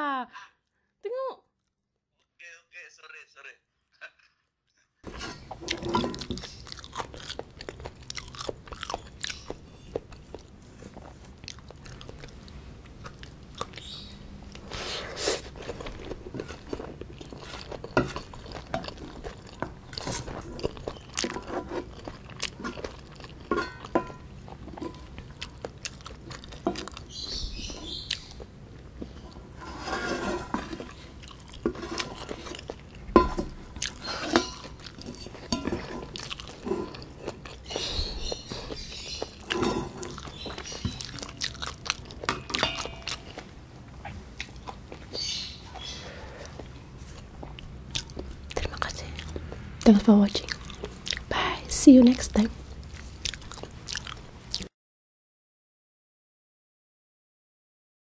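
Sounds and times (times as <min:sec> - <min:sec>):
person chewing and crunching: 0:05.1 - 0:51.3, 0:52.6 - 0:54.7.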